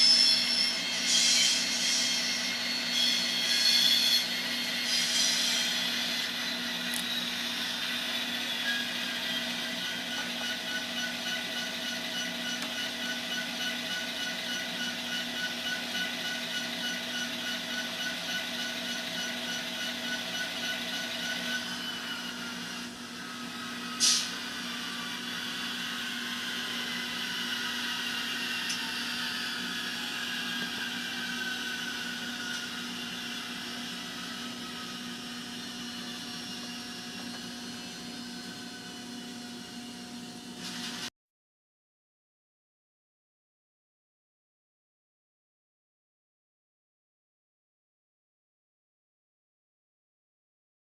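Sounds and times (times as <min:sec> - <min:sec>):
diesel locomotive engine through small speaker: 0:00.0 - 0:41.1.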